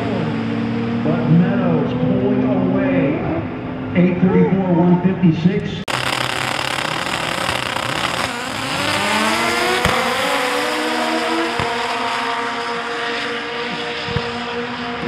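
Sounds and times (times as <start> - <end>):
drag car engines accelerating: 0.0 - 4.2, 5.0 - 15.0.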